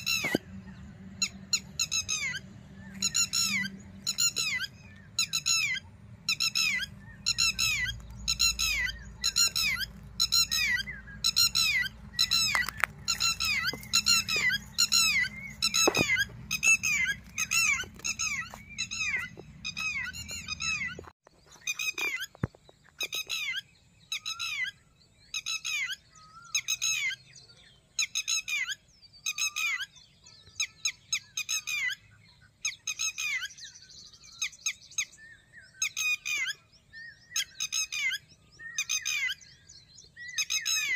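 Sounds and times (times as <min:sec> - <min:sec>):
bird squeaky calls: 0:00.0 - 0:27.4, 0:28.0 - 0:40.9.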